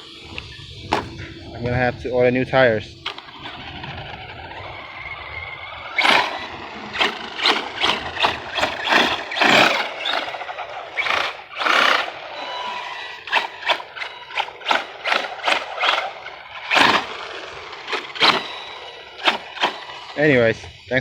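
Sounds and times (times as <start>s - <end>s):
electric motor whine bursts: 0.0s - 21.0s
tire noise: 0.0s - 21.0s.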